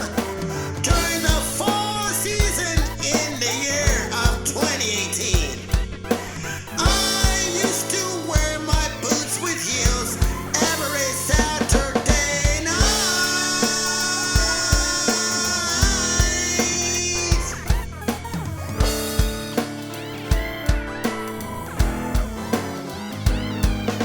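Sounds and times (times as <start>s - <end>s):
band backing music: 0.0s - 24.0s
steady kick-drum beat: 0.0s - 24.0s.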